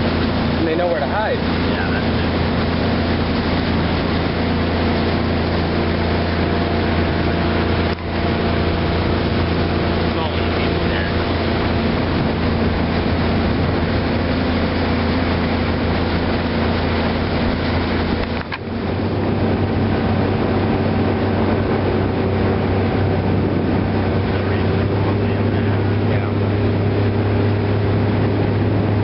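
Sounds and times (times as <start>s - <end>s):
motorboat engine humming: 0.0s - 29.0s
wind and water rushing: 0.0s - 29.0s.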